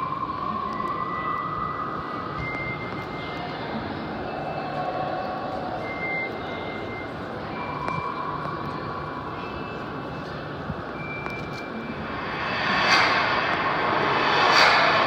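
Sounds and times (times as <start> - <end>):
rushing ambient drone: 0.0 - 15.0.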